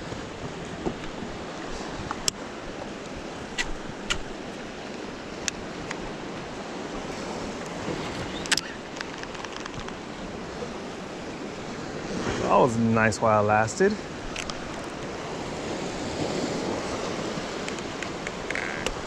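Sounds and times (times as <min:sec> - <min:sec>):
ocean surf against rocks: 0:00.0 - 0:19.0.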